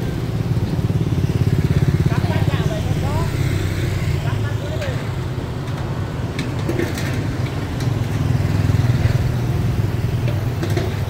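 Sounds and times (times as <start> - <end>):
vehicles passing: 0.0 - 11.0.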